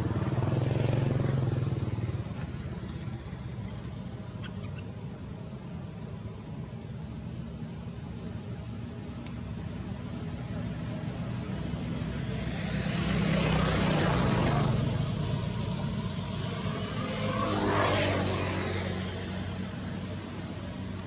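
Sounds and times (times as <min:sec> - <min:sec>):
low engine hum: 0:00.0 - 0:21.0
vehicles passing by: 0:00.0 - 0:21.0.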